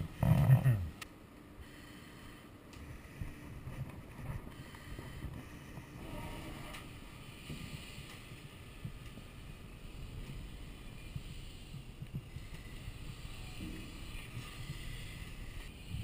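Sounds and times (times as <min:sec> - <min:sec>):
fire crackles: 0:00.0 - 0:16.0
fire rumbling: 0:00.0 - 0:16.0.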